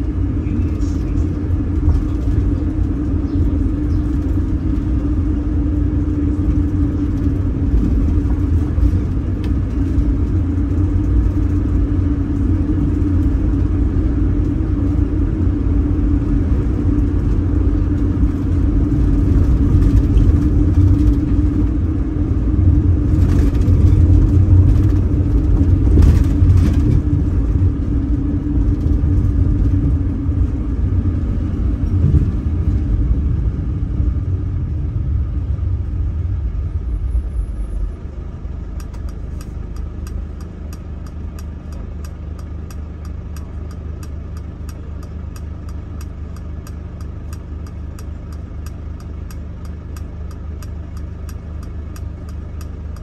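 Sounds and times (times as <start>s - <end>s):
bus engine drone: 0.0s - 53.0s
road rumble inside bus: 0.0s - 53.0s.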